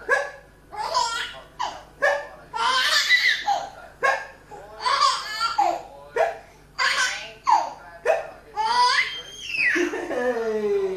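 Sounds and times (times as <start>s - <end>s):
baby laughing: 0.7s - 3.8s, 4.5s - 10.5s.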